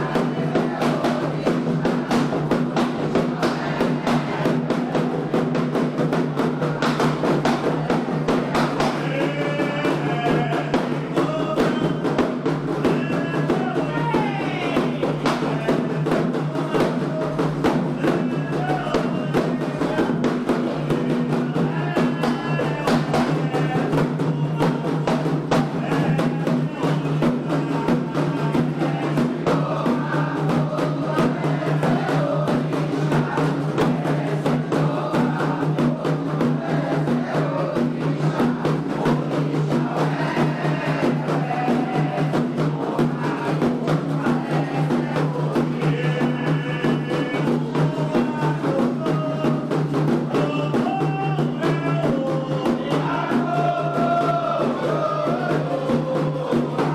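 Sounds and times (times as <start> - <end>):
hand drums playing fast rhythm: 0.0 - 56.9
voices singing: 0.0 - 56.9.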